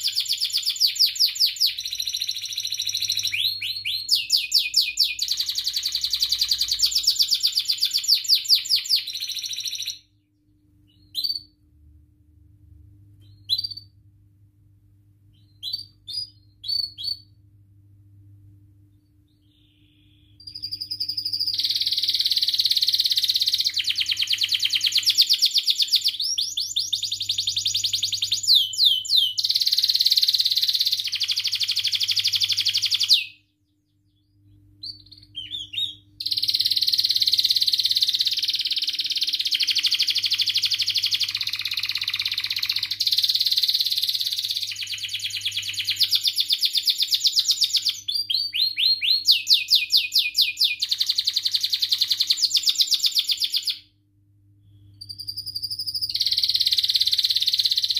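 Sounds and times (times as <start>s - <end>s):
canary singing trills: 0.0s - 10.1s, 10.9s - 11.6s, 13.2s - 14.0s, 15.4s - 17.4s, 19.3s - 53.9s, 54.8s - 57.9s.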